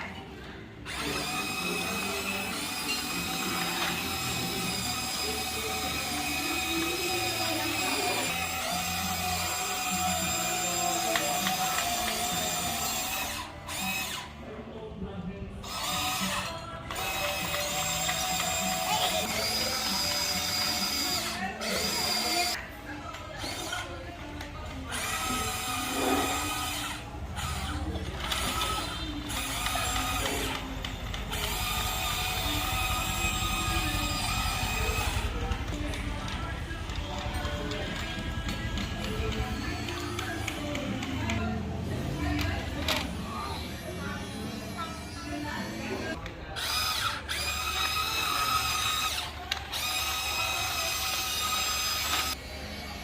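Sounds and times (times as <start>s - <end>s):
electric gear motors whirring: 0.5s - 14.9s, 15.6s - 53.0s.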